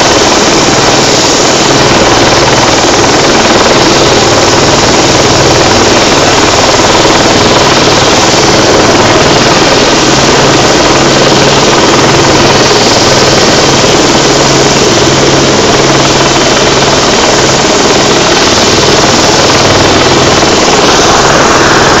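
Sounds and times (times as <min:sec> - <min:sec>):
helicopter hovering overhead: 0:00.0 - 0:22.0.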